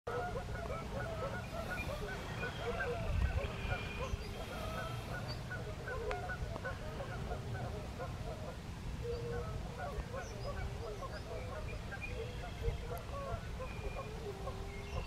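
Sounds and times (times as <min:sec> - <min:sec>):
geese honking: 0:00.1 - 0:15.0.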